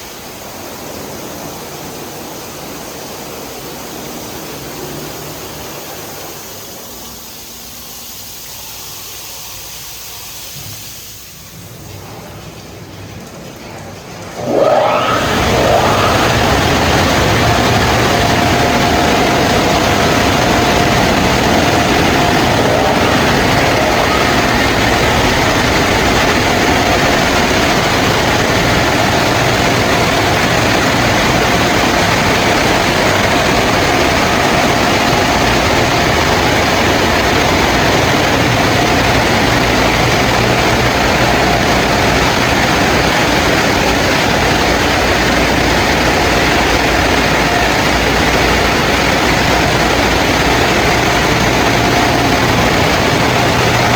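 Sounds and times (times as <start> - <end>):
car wash rushing noise: 0.0 - 53.9.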